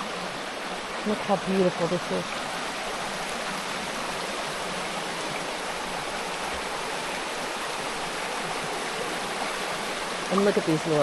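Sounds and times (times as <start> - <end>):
creek running over rocks: 0.0 - 11.0.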